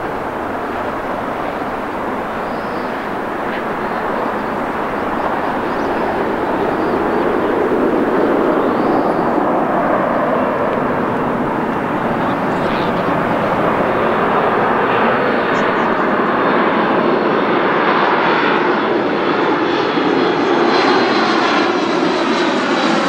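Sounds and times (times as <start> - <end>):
jet engine rushing: 0.0 - 23.0.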